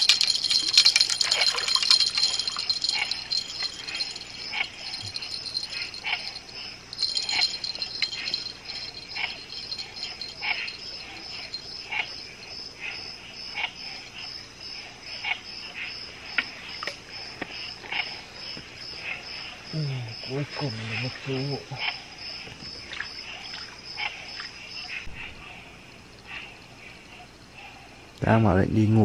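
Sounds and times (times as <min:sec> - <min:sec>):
insect clicking calls: 0:00.0 - 0:25.1
insects trilling: 0:00.0 - 0:29.0.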